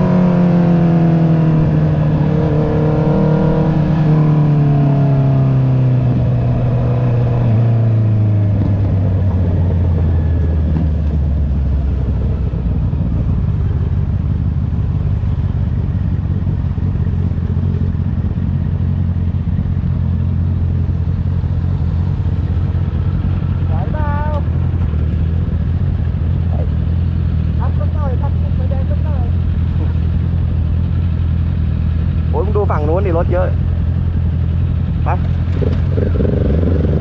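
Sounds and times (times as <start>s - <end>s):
motorcycle engine decelerating: 0.0s - 37.0s.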